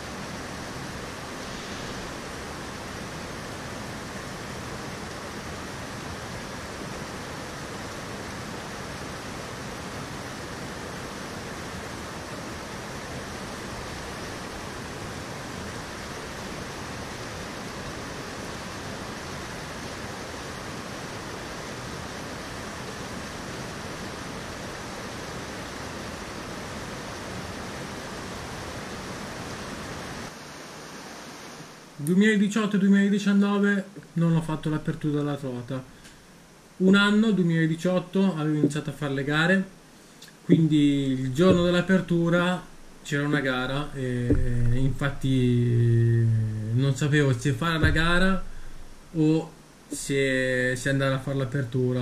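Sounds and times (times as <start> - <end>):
water rushing over boulders: 0.0 - 32.2, 33.9 - 52.0.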